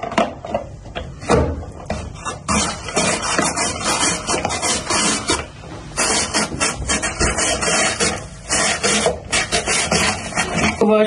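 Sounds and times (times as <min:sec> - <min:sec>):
drum grater rasping scrape: 0:01.9 - 0:11.0.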